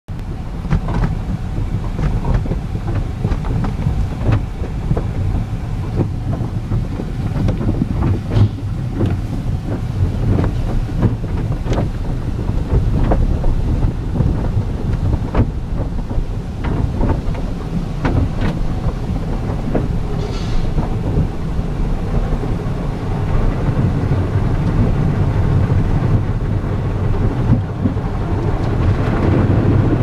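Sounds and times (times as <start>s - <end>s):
water spraying on car body: 0.2s - 30.0s.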